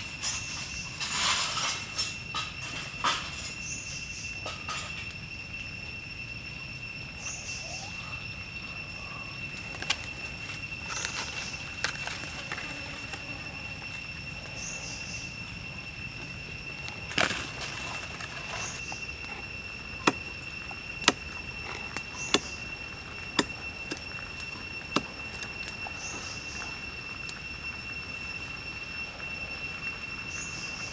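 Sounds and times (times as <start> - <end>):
high-pitched insect drone: 0.0 - 30.9.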